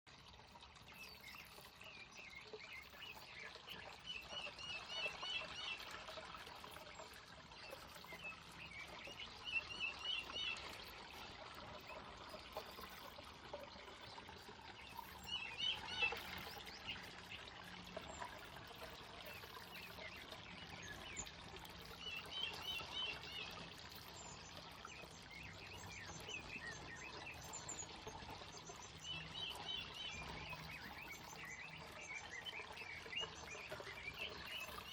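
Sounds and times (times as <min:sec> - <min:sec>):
waterfall splashing into pond: 0:00.1 - 0:34.9.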